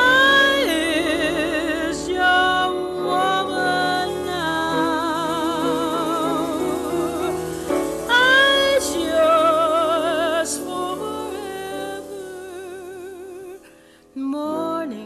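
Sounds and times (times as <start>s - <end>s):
instrumental backing: 0.0s - 15.0s
woman singing jazz ballad: 0.0s - 15.0s.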